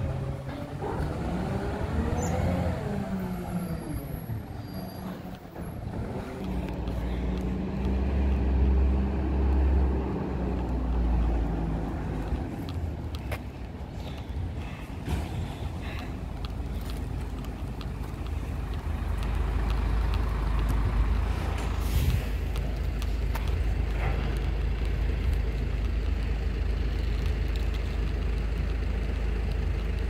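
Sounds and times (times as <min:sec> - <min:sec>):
diesel truck engine rumbling: 0:00.0 - 0:30.0.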